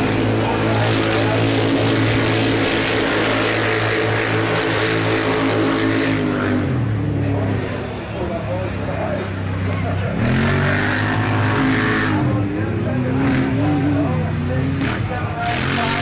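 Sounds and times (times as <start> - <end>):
utility vehicle engines droning: 0.0 - 16.0.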